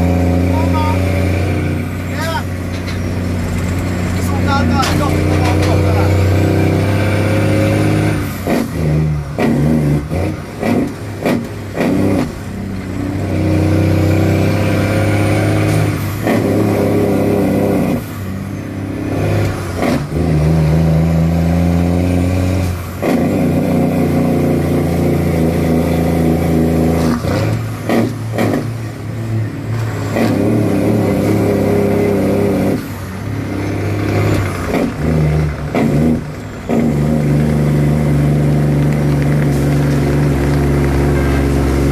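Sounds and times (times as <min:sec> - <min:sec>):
truck engine pulling hard: 0:00.0 - 0:41.9.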